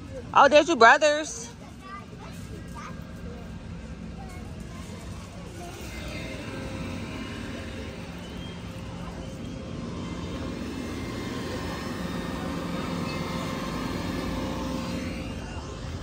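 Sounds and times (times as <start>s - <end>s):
engine-like rumble: 0.0s - 16.0s.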